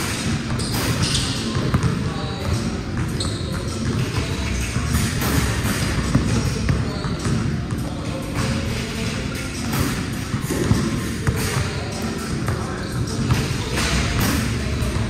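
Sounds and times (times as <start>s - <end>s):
basketballs bouncing on hard court: 0.0s - 15.0s.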